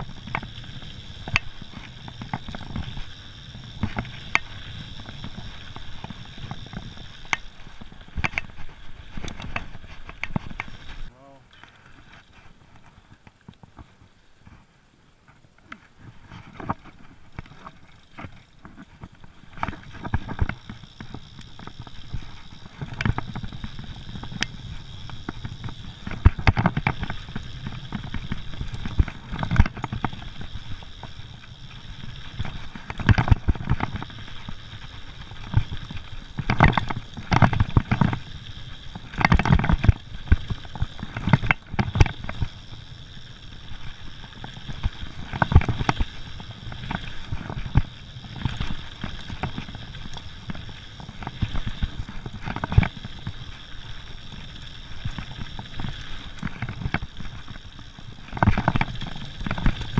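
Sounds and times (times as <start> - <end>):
bike knocks and rattles: 0.0 - 11.1, 16.3 - 59.9.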